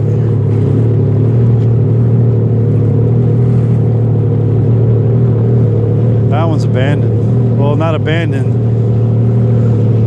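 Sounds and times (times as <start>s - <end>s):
personal watercraft engine humming: 0.0s - 10.0s.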